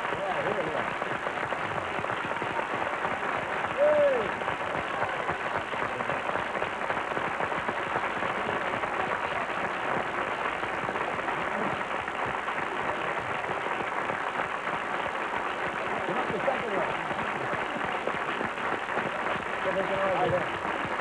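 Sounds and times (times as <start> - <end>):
studio audience applauding: 0.0 - 21.0.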